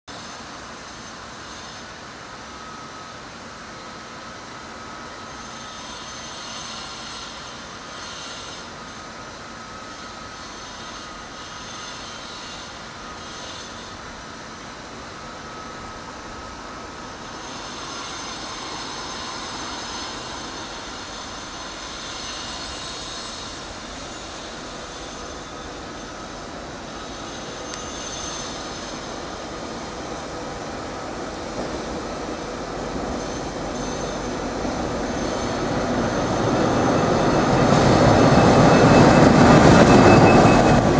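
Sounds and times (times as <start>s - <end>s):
diesel locomotive engine running: 0.1s - 40.9s
thin steady whine: 0.1s - 40.9s.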